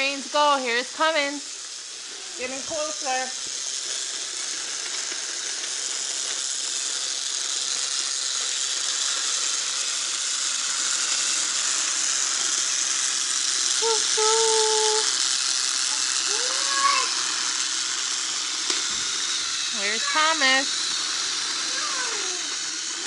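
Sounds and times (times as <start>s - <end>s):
toy train rattling on track: 0.0s - 23.0s.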